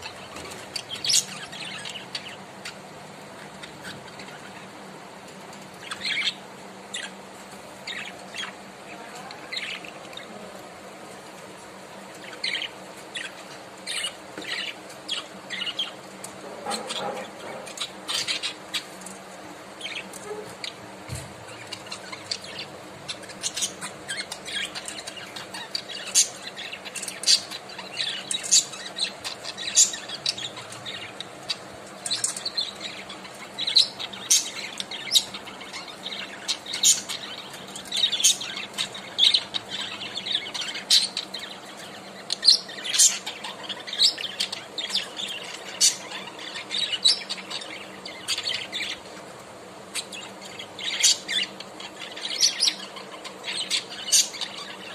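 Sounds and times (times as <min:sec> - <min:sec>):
budgerigars chirping and squawking: 0:00.0 - 0:04.8, 0:05.7 - 0:10.4, 0:12.1 - 0:19.2, 0:19.8 - 0:54.9.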